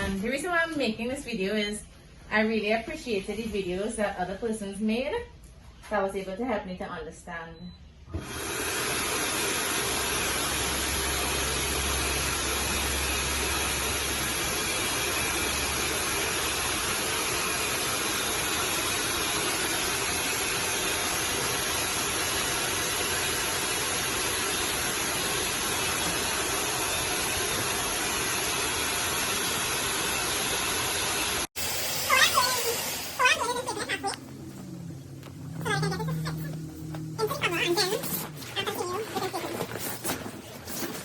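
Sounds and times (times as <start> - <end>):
electric air pump running: 8.1 - 41.0.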